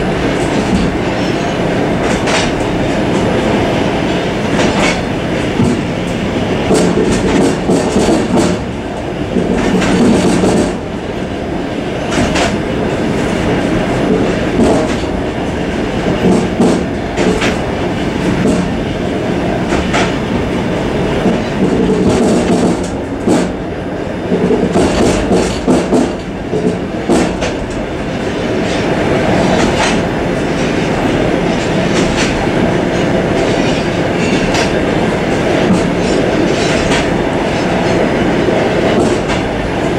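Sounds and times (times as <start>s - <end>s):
wheels clacking over rail joints: 0.0s - 8.7s, 9.3s - 10.9s, 12.0s - 12.6s, 14.0s - 18.8s, 19.6s - 20.3s, 21.2s - 23.6s, 24.3s - 39.9s
train wheels rumbling on rail: 0.0s - 39.9s.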